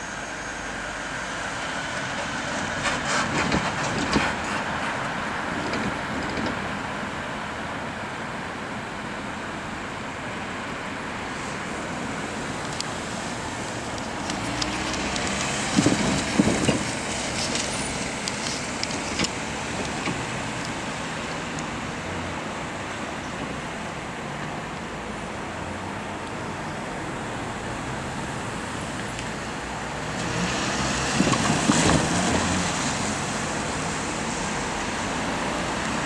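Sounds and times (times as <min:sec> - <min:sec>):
traffic over level crossing: 0:00.0 - 0:36.0.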